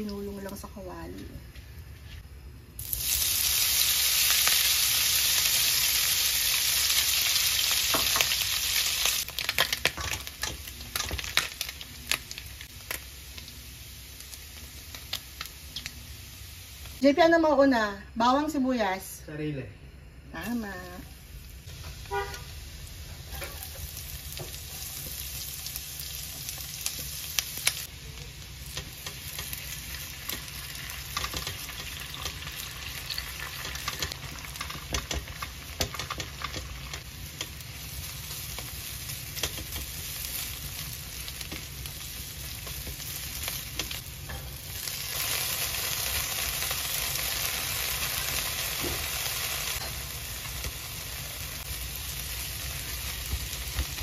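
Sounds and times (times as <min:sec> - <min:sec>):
food sizzling in oil: 0:02.8 - 0:18.7, 0:20.4 - 0:54.0.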